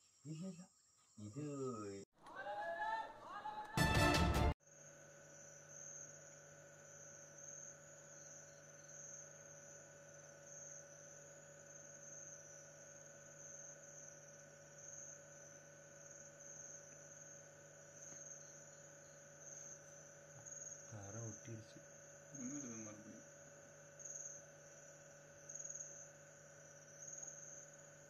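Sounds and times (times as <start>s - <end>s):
night insects chorus: 4.6s - 28.0s.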